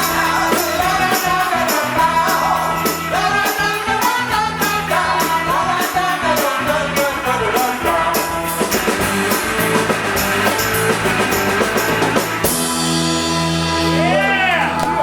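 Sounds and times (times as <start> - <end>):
high percussion hits: 0.0 - 13.9
live rock band playing: 0.0 - 15.0.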